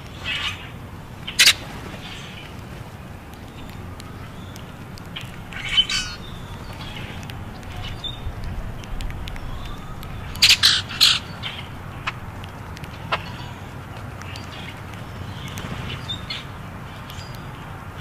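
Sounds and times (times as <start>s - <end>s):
low background rumble: 0.0s - 18.0s
grackles squawking: 0.1s - 2.6s, 3.6s - 16.6s.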